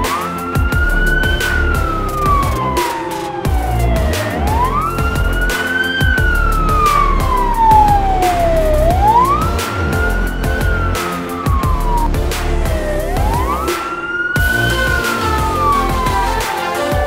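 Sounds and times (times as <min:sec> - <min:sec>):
background music with steady beat: 0:00.0 - 0:17.0
police siren wailing: 0:00.0 - 0:17.0.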